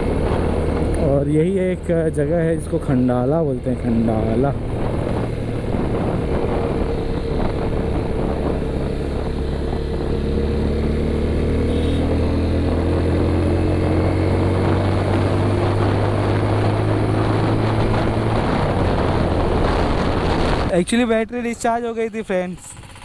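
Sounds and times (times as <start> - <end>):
motorcycle engine humming: 0.0 - 23.0.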